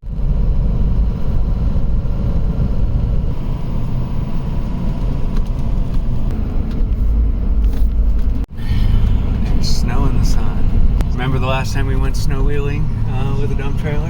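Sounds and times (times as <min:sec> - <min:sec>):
road noise: 0:00.0 - 0:14.0
truck engine rumble: 0:00.0 - 0:14.0.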